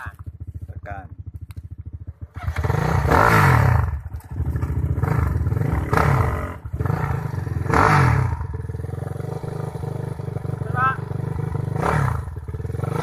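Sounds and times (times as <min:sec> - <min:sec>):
dirt bike engine idling and revving: 0:00.0 - 0:13.0.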